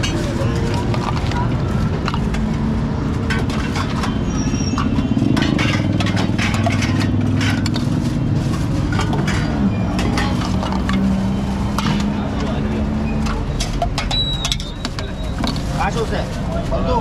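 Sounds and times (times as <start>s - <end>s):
vehicle engine humming: 0.0s - 14.0s
utensils clicking and clinking: 0.0s - 16.5s.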